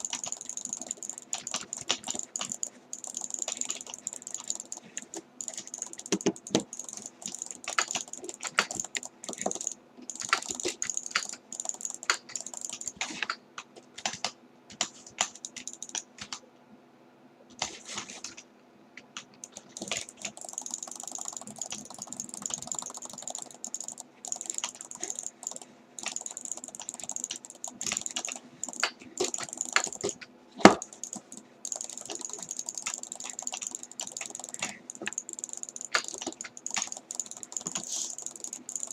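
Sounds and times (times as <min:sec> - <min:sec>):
typing on computer keyboard: 0:00.0 - 0:13.4, 0:14.0 - 0:16.4, 0:19.2 - 0:38.9
faint hum and hiss: 0:00.0 - 0:38.9.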